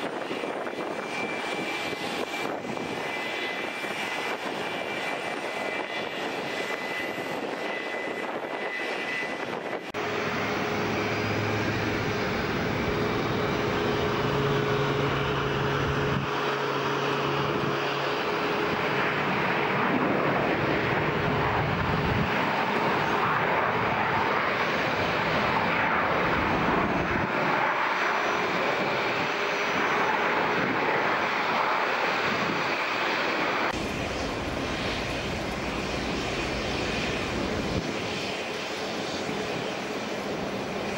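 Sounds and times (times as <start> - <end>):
jet engines taxiing hum: 0.0 - 40.9
rush of jet noise: 7.4 - 40.9.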